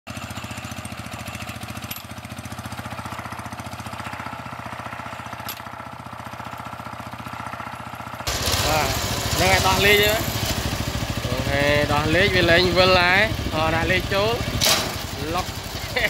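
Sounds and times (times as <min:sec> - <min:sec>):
small engine idling: 0:00.1 - 0:16.0.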